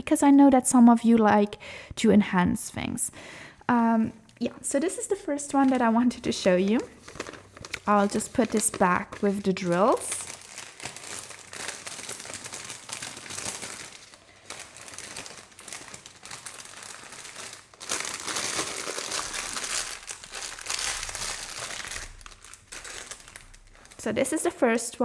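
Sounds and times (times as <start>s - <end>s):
plastic bags crinkling: 4.6s - 24.7s.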